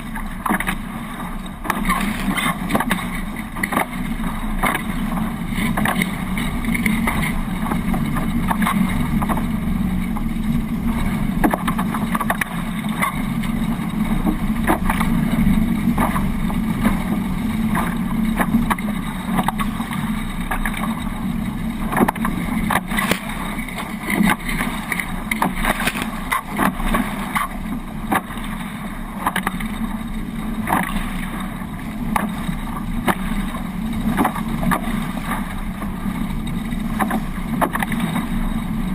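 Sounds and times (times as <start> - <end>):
water rushing along hulls: 0.0 - 38.9
water slapping and splashing: 0.0 - 38.9.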